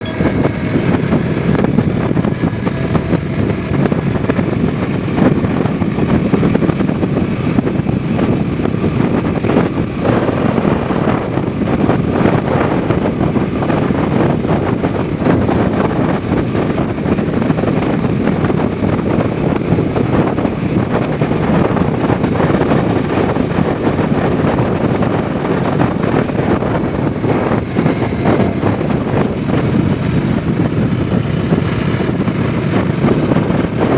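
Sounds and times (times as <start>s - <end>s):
motorcycle engine running: 0.0s - 33.9s
wind rush on microphone: 0.0s - 33.9s.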